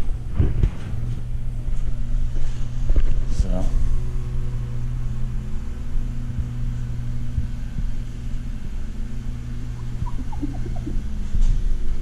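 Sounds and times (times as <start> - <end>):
low hum with rumble: 0.0 - 12.0.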